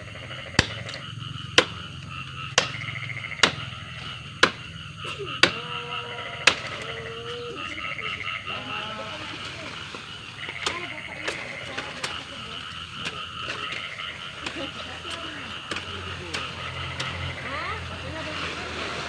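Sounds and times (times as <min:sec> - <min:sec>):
frogs and insects chorus: 0:00.0 - 0:19.0.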